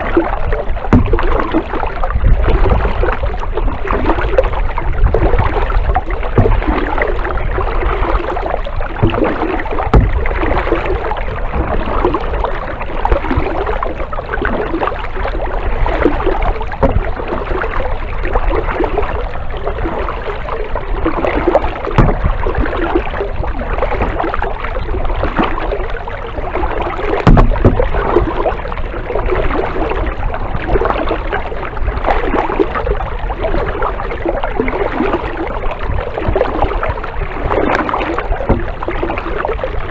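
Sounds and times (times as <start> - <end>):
paddle splashing through water: 0.0 - 39.9.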